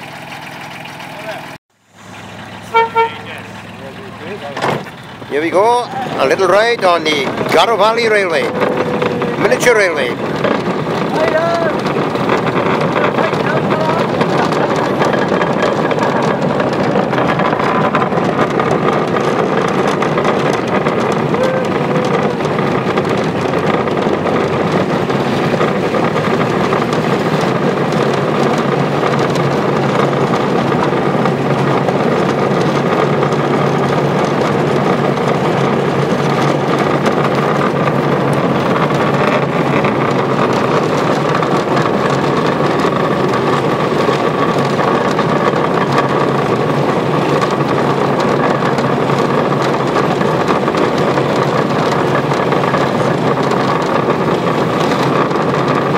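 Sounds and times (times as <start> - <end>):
small locomotive engine running: 0.0 - 55.9.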